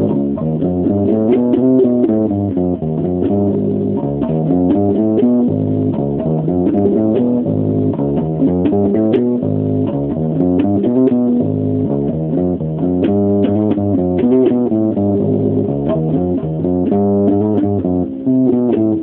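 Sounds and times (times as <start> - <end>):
electric bass guitar riff: 0.0 - 19.0.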